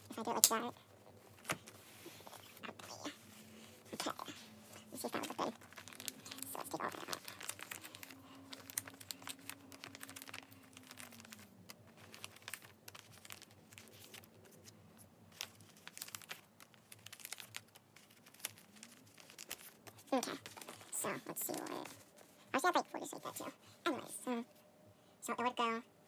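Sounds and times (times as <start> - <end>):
faint low hum: 0.0 - 26.0
plastic binder sleeve crinkling: 0.1 - 23.3.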